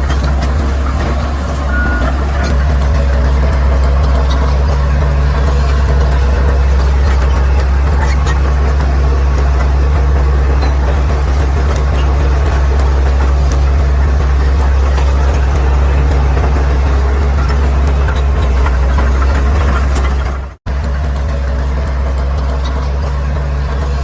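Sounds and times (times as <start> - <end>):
bulldozer diesel engine droning: 0.0 - 24.0.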